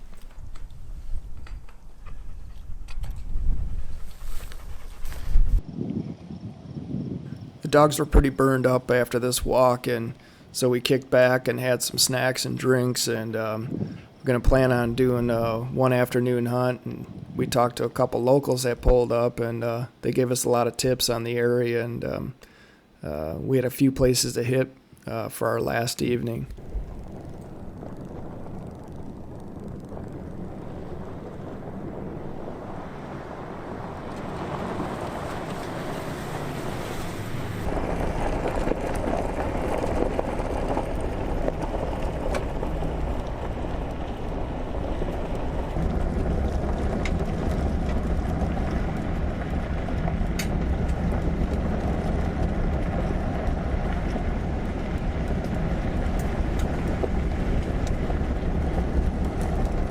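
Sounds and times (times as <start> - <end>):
vehicle road and wind noise: 0.0 - 22.4, 25.6 - 59.9.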